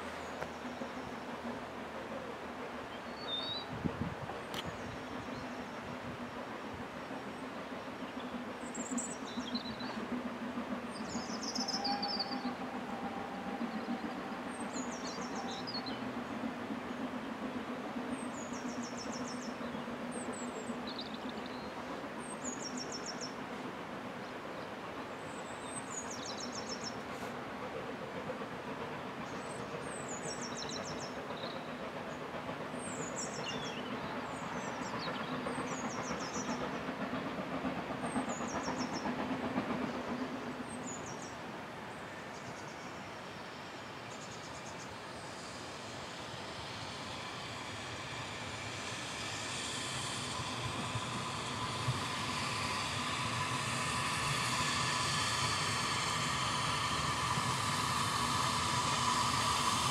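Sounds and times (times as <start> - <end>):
distant steam train: 0.0 - 59.9.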